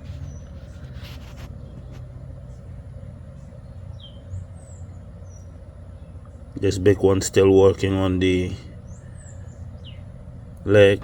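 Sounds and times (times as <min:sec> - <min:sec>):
bird chirps: 0:00.0 - 0:06.8, 0:08.5 - 0:10.7
distant traffic rumble: 0:00.0 - 0:11.0.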